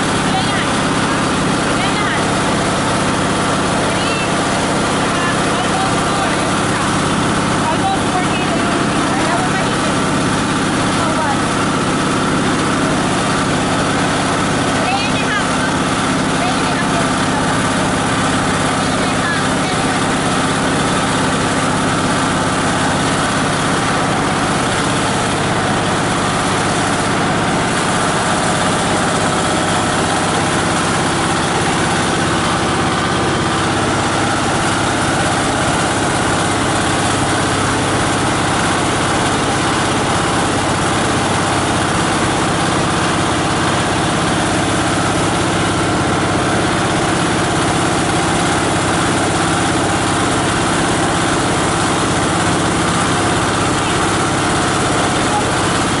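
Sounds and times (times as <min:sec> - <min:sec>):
diesel engine driving a grinder: 0:00.0 - 0:56.0.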